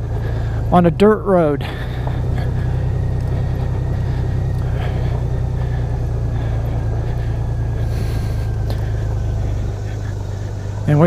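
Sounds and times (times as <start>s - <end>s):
motorcycle engine low drone: 0.0s - 11.0s
tyres rolling over dirt and rocks: 0.0s - 11.0s.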